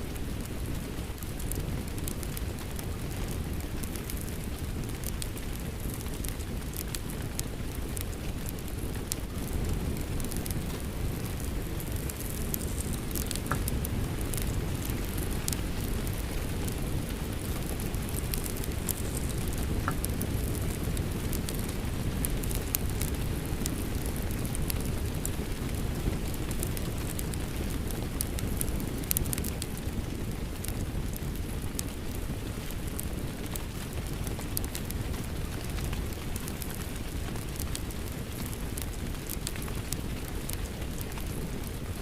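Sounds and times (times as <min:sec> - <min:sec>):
crackling wood fire: 0:00.0 - 0:42.0
steady rain: 0:00.0 - 0:42.0.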